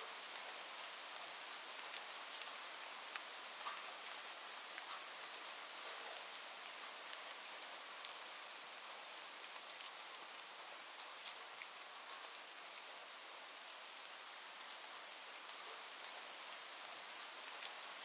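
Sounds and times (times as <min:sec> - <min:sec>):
rain falling: 0:00.0 - 0:18.0
raindrops ticking close by: 0:00.0 - 0:18.0.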